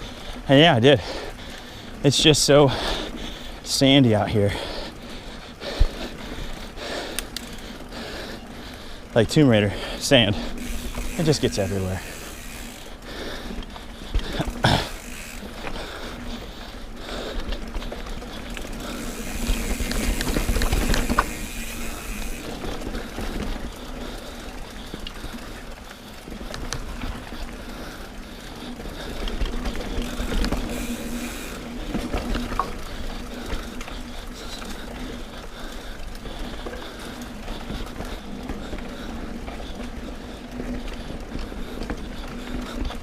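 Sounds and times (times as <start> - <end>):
bike chain ticking and rattling: 0.0 - 43.0
tyres rolling over dirt: 7.3 - 43.0.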